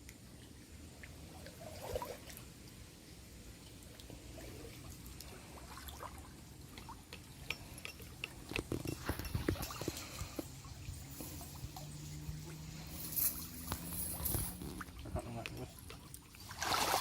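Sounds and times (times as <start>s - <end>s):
small drips and clicks: 0.0s - 2.8s, 3.5s - 16.7s
water trickling and dripping: 0.0s - 17.0s.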